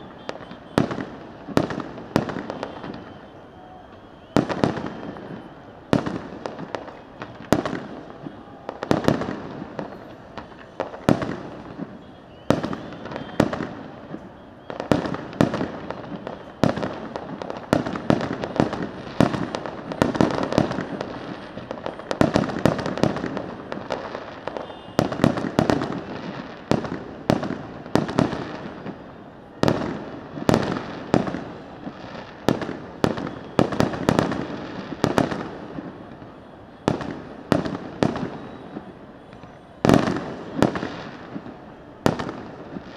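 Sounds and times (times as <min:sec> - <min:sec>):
fireworks bangs: 0:00.0 - 0:42.9
rumble of fireworks reports: 0:00.0 - 0:42.9.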